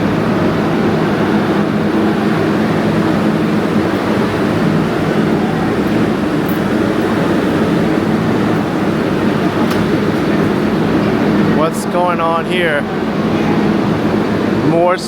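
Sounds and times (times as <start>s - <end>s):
constant low hum: 0.0s - 14.9s
subway station rumble: 0.0s - 15.0s.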